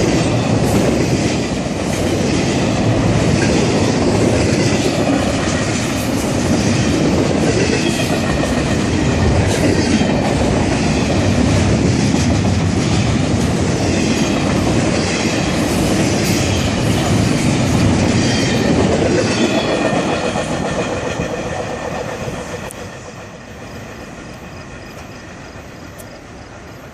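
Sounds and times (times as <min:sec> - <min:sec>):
wheels clacking over rail joints: 0:00.0 - 0:26.9.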